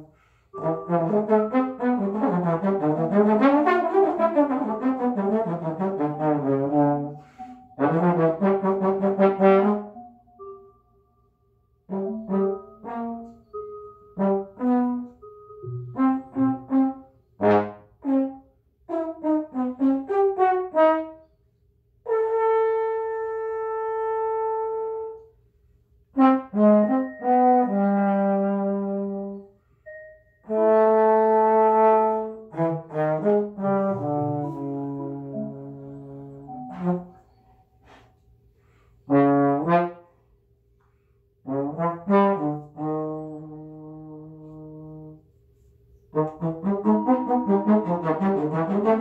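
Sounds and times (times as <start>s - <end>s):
trombone improvising: 0.0s - 10.5s, 11.8s - 13.6s, 14.2s - 21.3s, 22.0s - 25.3s, 26.1s - 29.6s, 30.4s - 38.2s, 39.0s - 40.2s, 41.4s - 45.3s, 46.0s - 49.0s.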